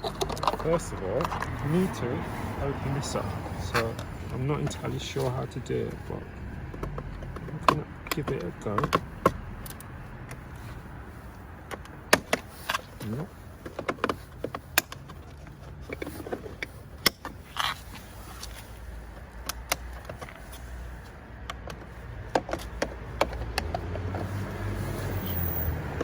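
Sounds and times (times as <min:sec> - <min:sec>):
plastic clicks and scraping: 0:00.0 - 0:02.0, 0:03.7 - 0:10.8, 0:11.6 - 0:26.0.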